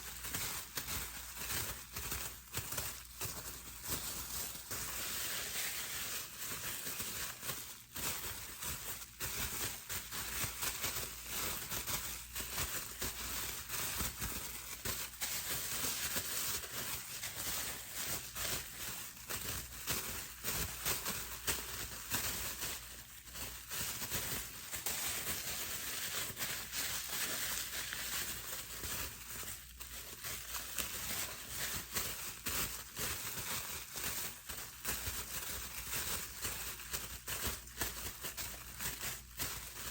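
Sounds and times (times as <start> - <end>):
bubble wrap crackling: 0.0 - 39.9.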